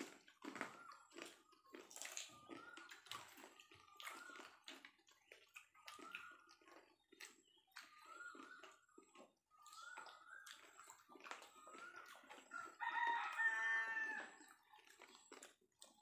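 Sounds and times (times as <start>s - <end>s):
people slurping and chewing: 0.0s - 16.0s.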